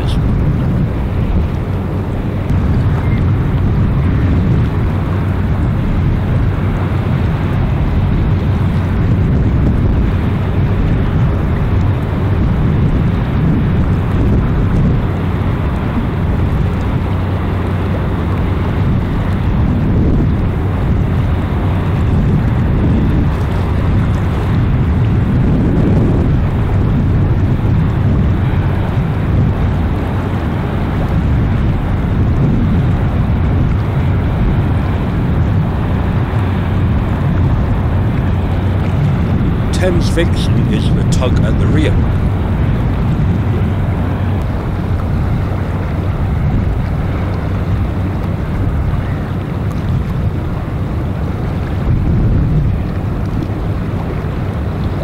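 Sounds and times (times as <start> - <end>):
ship engines rumbling: 0.0 - 55.0
wind buffeting microphone: 0.0 - 55.0.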